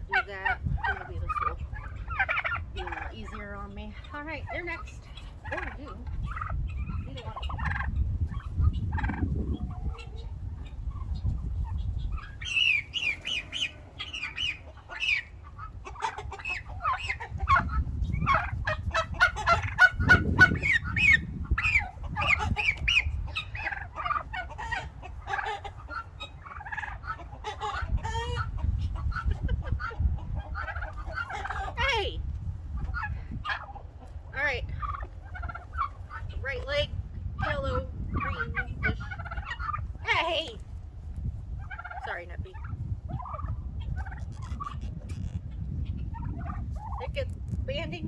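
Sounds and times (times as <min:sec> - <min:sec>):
turkeys calling and clucking: 0:00.0 - 0:47.9.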